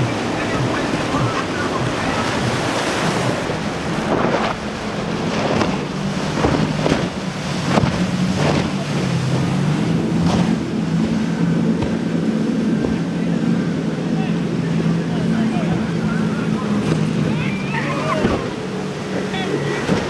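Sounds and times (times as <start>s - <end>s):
hull splashing on waves: 0.0s - 20.0s
motorboat engine running: 0.0s - 20.0s
wind buffeting microphone: 0.0s - 20.0s.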